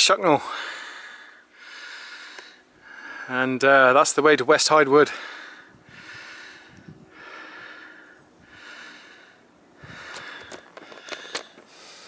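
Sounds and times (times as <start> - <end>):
person breathing: 0.4 - 3.3, 5.1 - 12.0.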